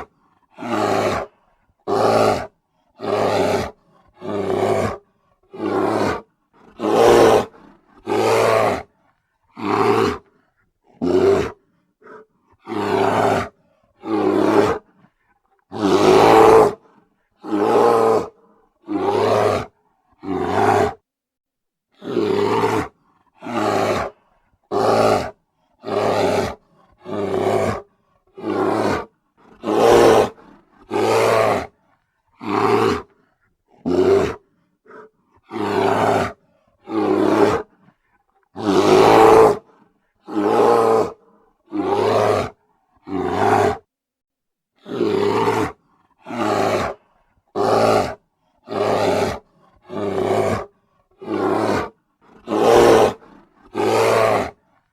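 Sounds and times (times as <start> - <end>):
bear roaring: 0.0 - 9.0, 9.6 - 15.0, 15.7 - 21.0, 22.0 - 31.8, 32.4 - 37.9, 38.5 - 43.9, 44.8 - 54.6.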